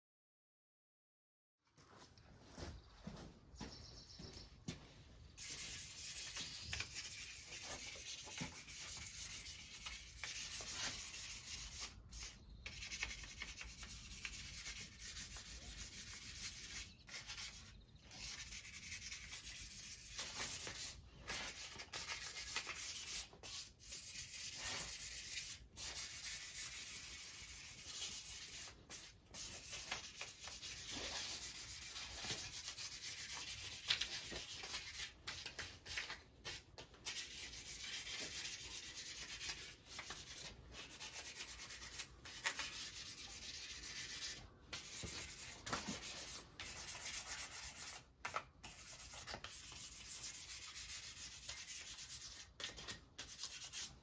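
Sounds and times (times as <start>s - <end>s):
sandpaper rubbing on metal frame: 5.3s - 54.0s.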